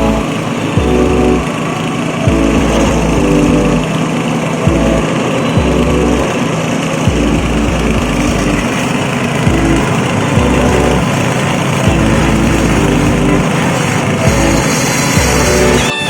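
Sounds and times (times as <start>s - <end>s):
feed chopper motor running: 0.0s - 16.0s.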